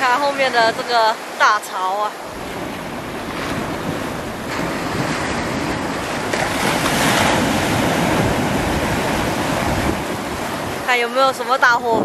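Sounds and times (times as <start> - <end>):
wind buffeting microphone: 0.0 - 1.1, 2.2 - 12.0
sea surf breaking on shore: 0.0 - 12.0.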